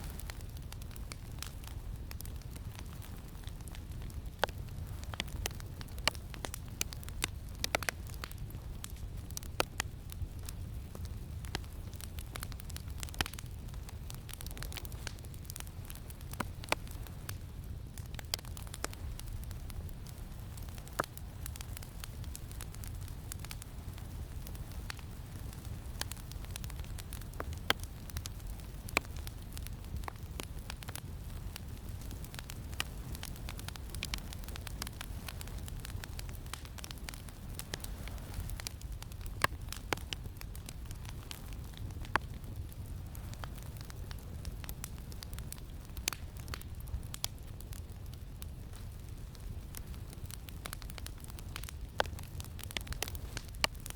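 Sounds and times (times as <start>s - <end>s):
campfire crackling and popping: 0.0s - 53.9s
low rumble of wind: 0.0s - 53.9s.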